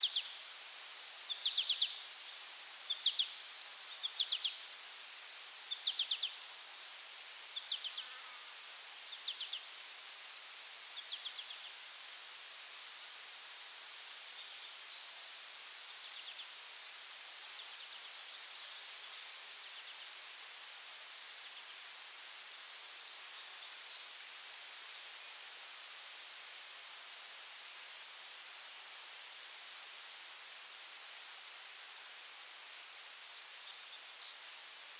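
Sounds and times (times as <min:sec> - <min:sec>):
insects droning: 0:00.0 - 0:34.9
pulsing insect chirp: 0:00.0 - 0:34.9.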